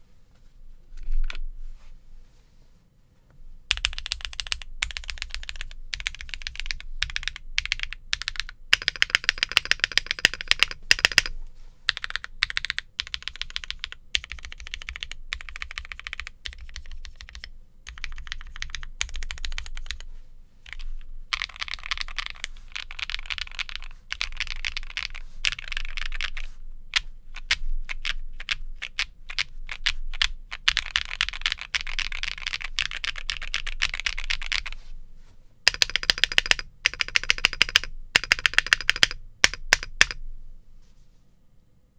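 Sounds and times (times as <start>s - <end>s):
typing on mechanical keyboard: 3.7s - 11.3s, 11.9s - 20.1s, 20.7s - 34.8s, 35.7s - 40.2s.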